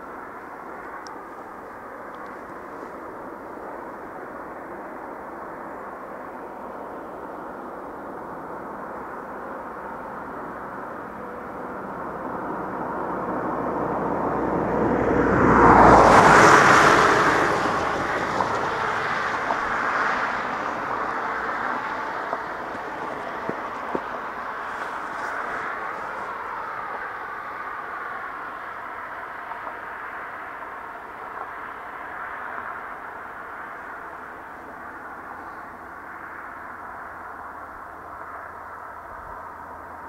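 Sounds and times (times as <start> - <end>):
car passing: 0.0 - 40.0.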